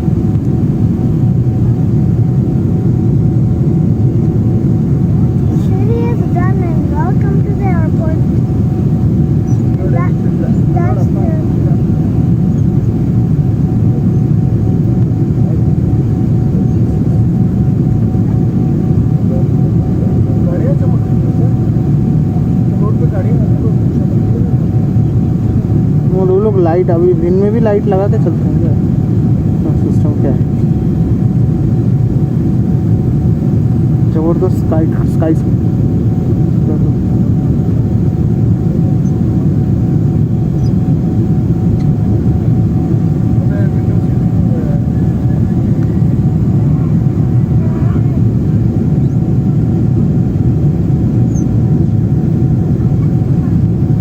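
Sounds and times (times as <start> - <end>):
airliner engine and airflow noise: 0.0 - 54.0
faint steady whine: 0.0 - 54.0.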